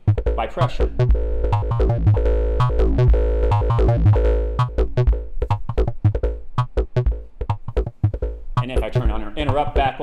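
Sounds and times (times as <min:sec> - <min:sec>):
analogue synth step sequence: 0:00.0 - 0:10.0.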